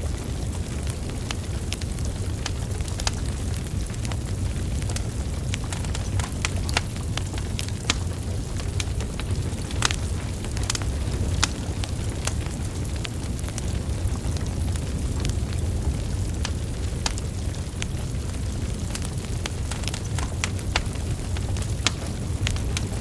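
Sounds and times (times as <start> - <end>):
logs crackling and popping: 0.0 - 23.0
low rumble of flame: 0.0 - 23.0.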